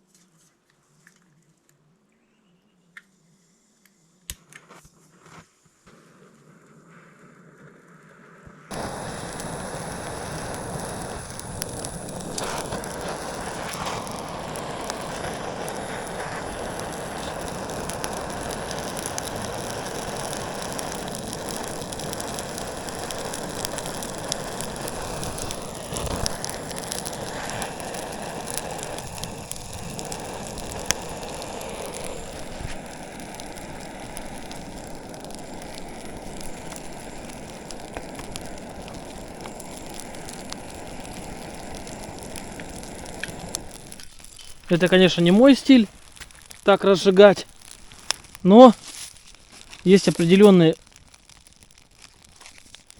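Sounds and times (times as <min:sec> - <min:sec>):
gas burner hissing: 0:08.2 - 0:52.9
wood crackling: 0:08.7 - 0:52.9.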